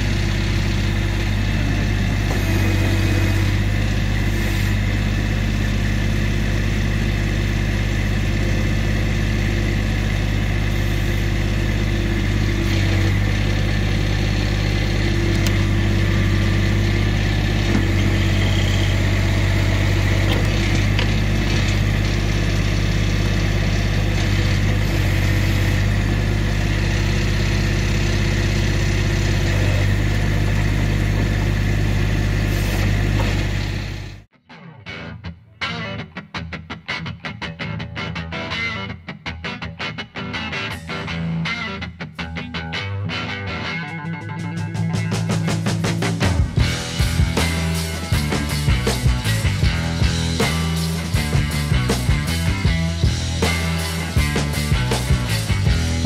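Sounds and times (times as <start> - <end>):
tractor diesel engine running: 0.0 - 34.3, 44.3 - 56.0.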